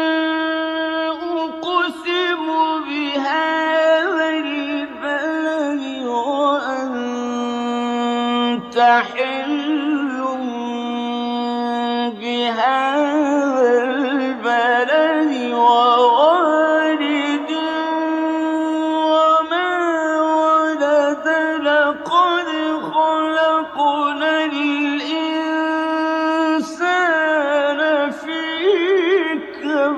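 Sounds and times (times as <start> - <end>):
man chanting melodically: 0.0 - 29.9.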